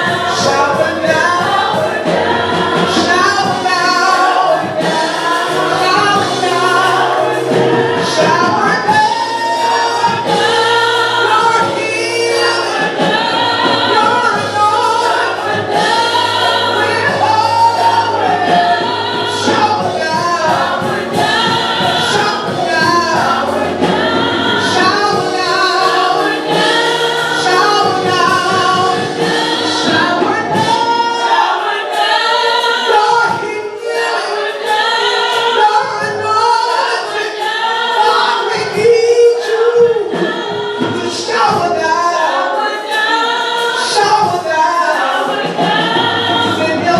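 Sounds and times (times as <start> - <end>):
choir singing gospel: 0.0 - 46.9
organ chords: 0.0 - 46.9.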